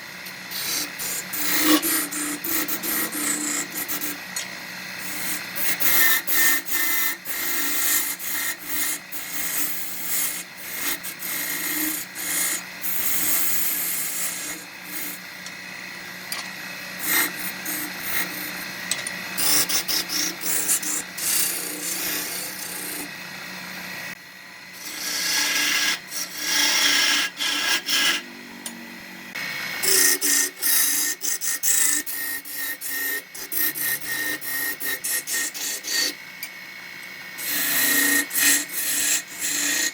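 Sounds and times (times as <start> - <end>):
tool scraping spinning wood: 0.0 - 24.2, 29.3 - 36.2, 37.0 - 39.9
lathe motor hum: 0.0 - 39.9.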